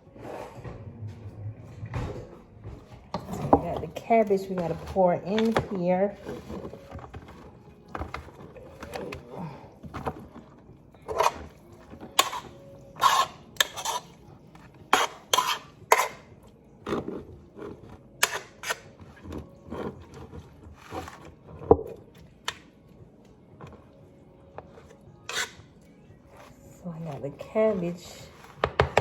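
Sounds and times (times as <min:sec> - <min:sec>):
spoon scraping against pot: 0:03.1 - 0:09.2, 0:09.8 - 0:22.6, 0:24.5 - 0:29.0.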